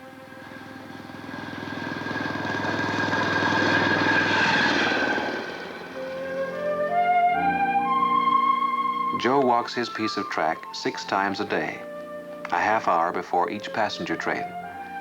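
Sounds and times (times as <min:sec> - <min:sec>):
passing rail vehicle engine: 0:00.0 - 0:15.0
rising woodwind music: 0:00.0 - 0:15.0.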